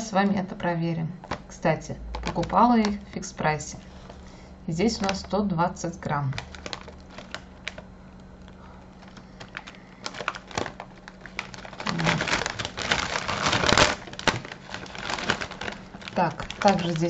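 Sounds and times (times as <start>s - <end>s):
plastic crisp bag crinkling: 1.2s - 5.4s, 6.1s - 17.0s.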